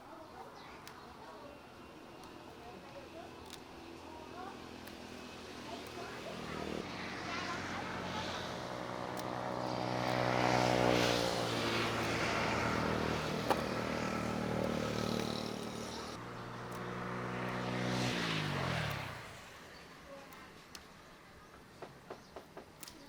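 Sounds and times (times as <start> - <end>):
small engine humming: 0.1 - 20.9.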